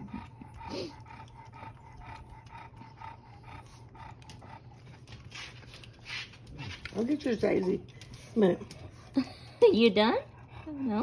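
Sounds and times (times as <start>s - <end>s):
dog licking wetly: 0.0s - 9.0s.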